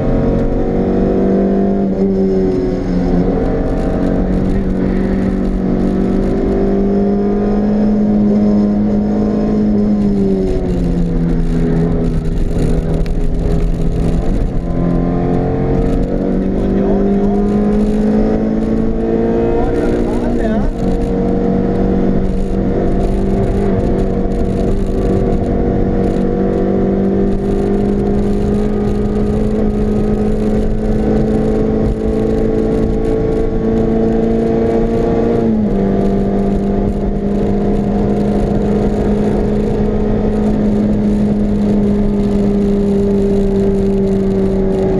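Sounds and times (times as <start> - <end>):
car engine revving high: 0.0 - 44.9
road and wind noise: 0.0 - 44.9.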